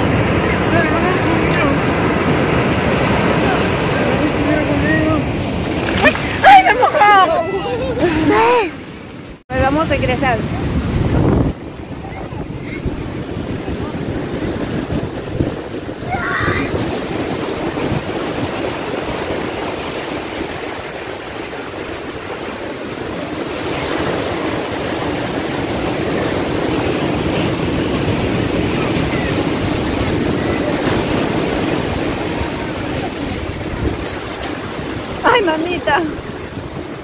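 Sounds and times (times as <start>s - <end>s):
ocean waves breaking: 0.0s - 37.0s.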